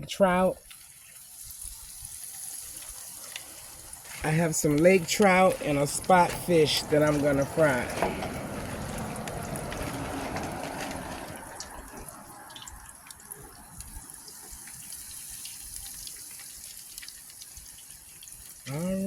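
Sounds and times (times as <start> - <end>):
oil sizzling in a pan: 0.6 - 18.7.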